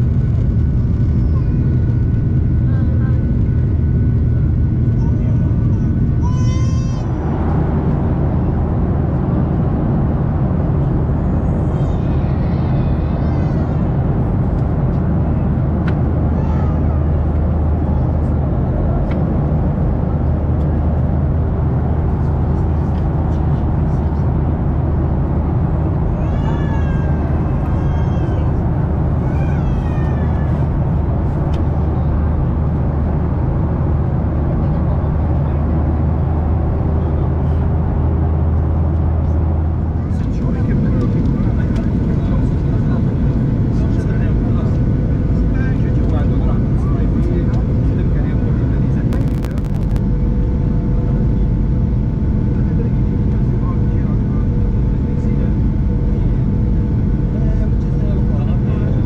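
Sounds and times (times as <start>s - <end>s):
airplane cabin engine roar: 0.0s - 59.0s.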